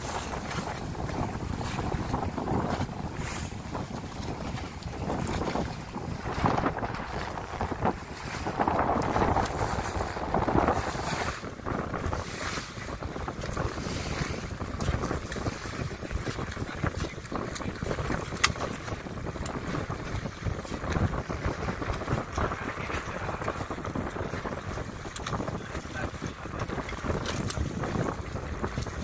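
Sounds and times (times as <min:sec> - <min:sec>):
choppy water splashing: 0:00.0 - 0:29.0
wind buffeting microphone: 0:00.0 - 0:29.0.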